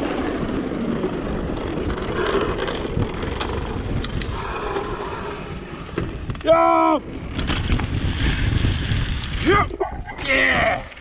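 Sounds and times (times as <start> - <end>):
tyre and trail noise: 0.0 - 11.0
wind rushing over microphone: 0.0 - 11.0
bike clicks and rattles: 0.2 - 6.6, 7.2 - 10.3.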